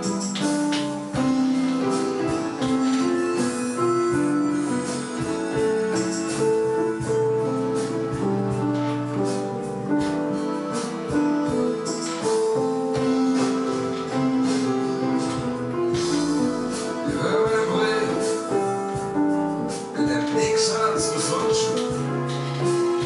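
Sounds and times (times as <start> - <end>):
electronic keyboard chords and melody: 0.0 - 23.0
light steady beat: 0.0 - 23.0.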